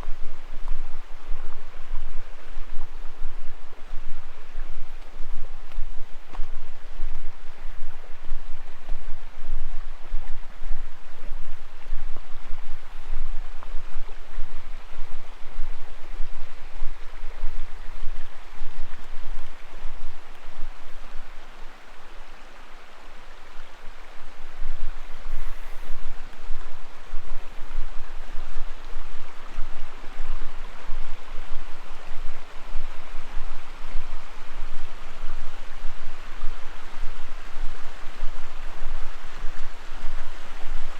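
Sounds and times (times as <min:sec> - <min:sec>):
low rumble on microphone: 0:00.0 - 0:40.9
water rushing over rocks: 0:00.0 - 0:40.9.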